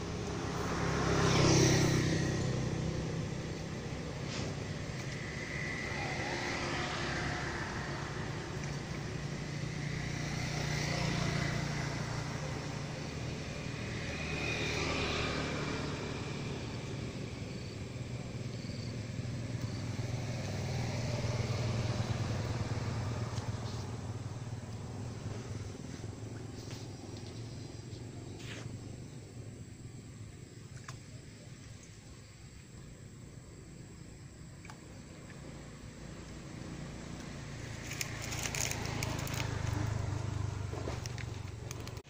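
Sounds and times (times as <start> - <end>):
steady low engine sound: 0.0 - 14.2, 15.5 - 42.0
road vehicles passing: 0.0 - 42.0.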